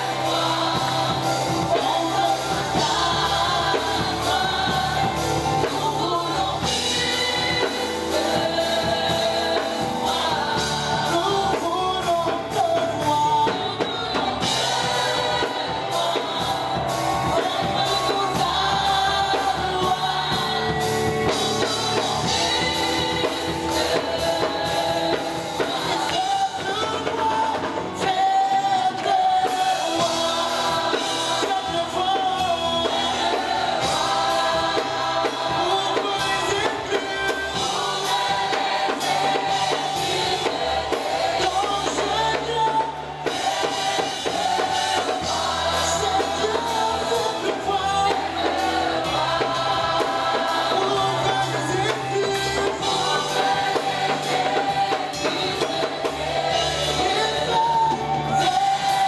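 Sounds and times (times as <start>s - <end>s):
drums: 0.0s - 59.0s
group singing worship song: 0.0s - 59.0s
keyboard: 0.0s - 59.0s.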